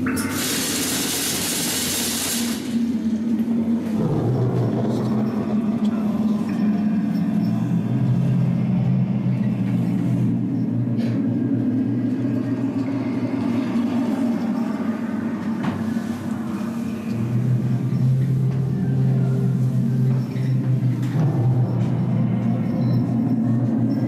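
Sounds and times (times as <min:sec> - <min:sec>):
low hum: 0:02.6 - 0:24.0.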